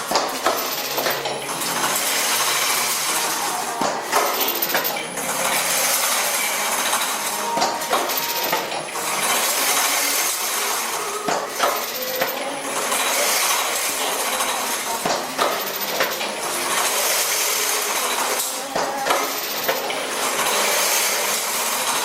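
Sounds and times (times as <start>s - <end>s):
mesh machine clattering and knocking: 0.0s - 22.0s.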